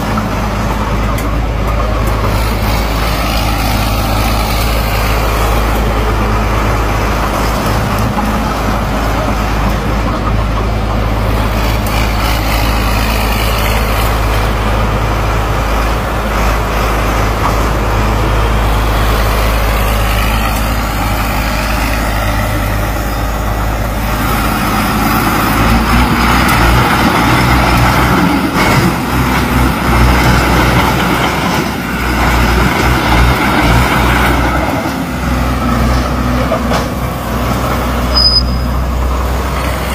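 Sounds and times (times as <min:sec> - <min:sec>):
tracked machine engine running: 0:00.0 - 0:39.9.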